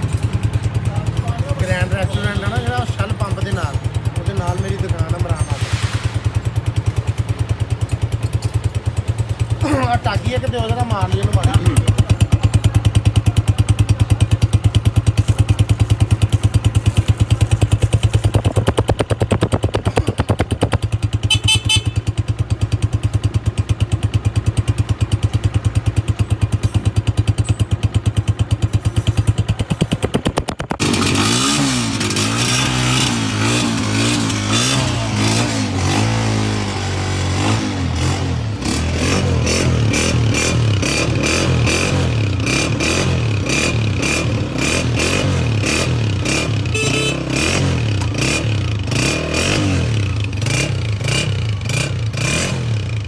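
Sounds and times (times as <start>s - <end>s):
motorcycle engine idling: 0.0s - 5.5s, 6.2s - 49.0s.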